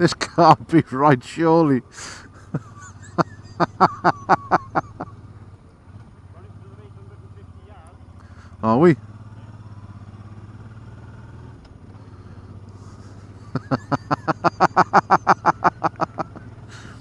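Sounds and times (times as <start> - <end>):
motorcycle engine running: 1.8 - 17.0.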